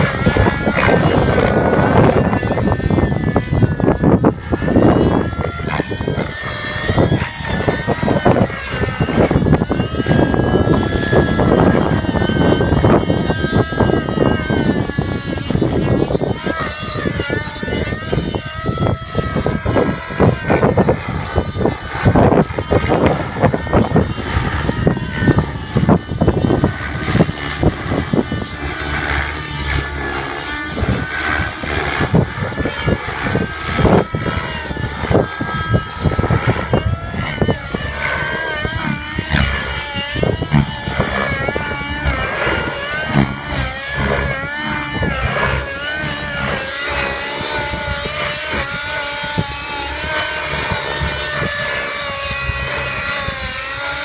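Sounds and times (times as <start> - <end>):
rc helicopter engine and rotor: 0.0 - 54.0
wind buffeting microphone: 0.0 - 54.0.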